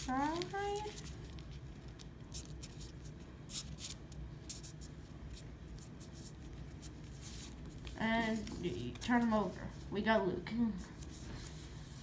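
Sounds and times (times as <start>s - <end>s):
paper rustling and crinkling: 0.0s - 9.9s.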